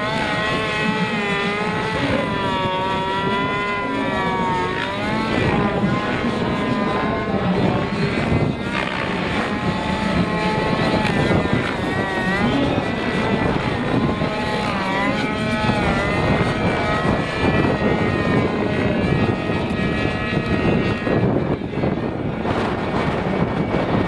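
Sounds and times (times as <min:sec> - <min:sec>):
model helicopter engine and rotor: 0:00.0 - 0:24.0.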